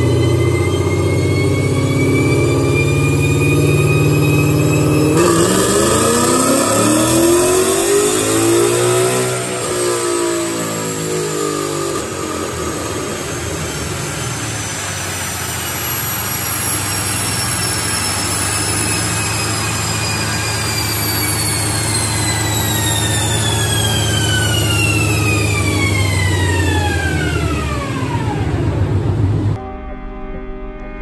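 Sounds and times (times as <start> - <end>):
car engine revving: 0.0 - 29.6
high whine of rollers spinning down: 0.0 - 29.6.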